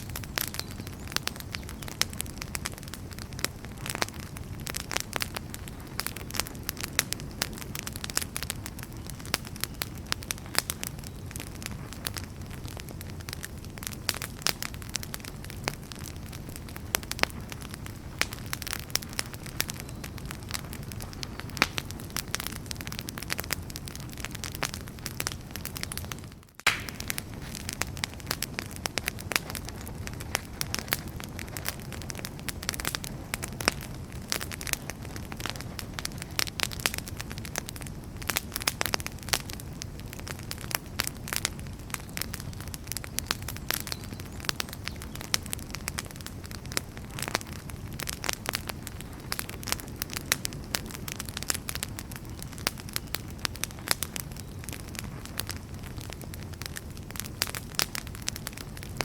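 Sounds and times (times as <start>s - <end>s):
firewood crackling: 0.0s - 59.0s.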